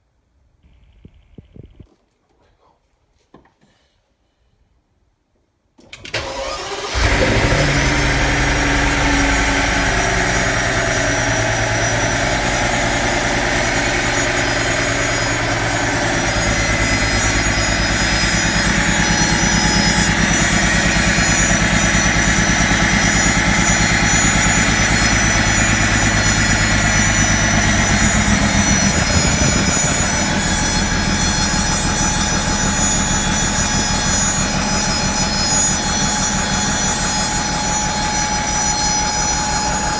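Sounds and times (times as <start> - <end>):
machine buzzing hum: 6.8 - 39.9.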